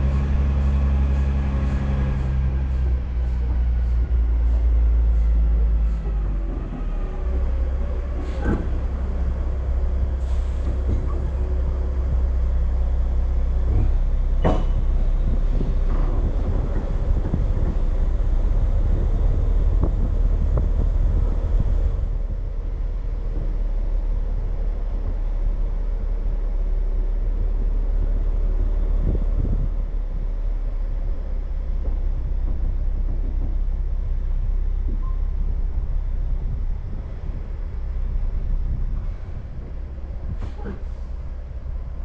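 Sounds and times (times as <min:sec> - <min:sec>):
diesel truck engine rumble: 0:00.0 - 0:42.0
trailer knocking and rattling: 0:00.0 - 0:42.0.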